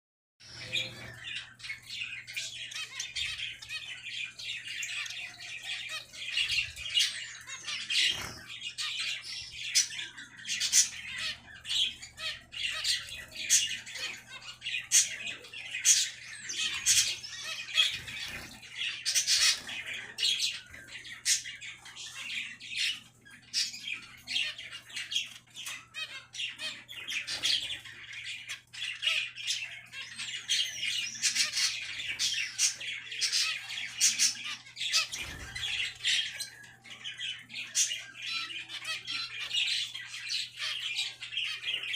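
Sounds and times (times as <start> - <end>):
finch flock chattering: 0.4 - 41.9.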